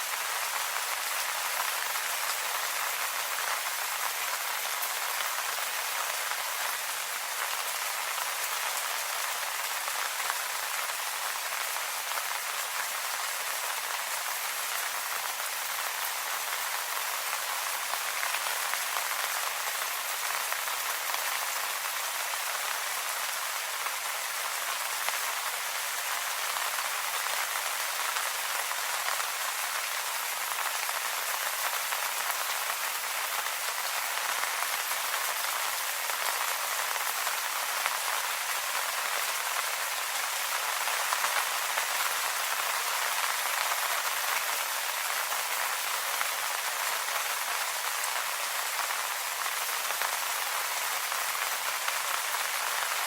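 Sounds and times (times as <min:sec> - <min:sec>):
light rain pattering on leaves: 0:00.0 - 0:53.0.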